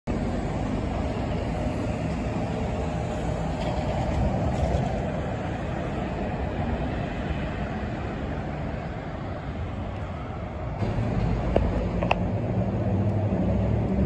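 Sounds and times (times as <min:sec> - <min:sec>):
road traffic rush: 0:00.0 - 0:14.0.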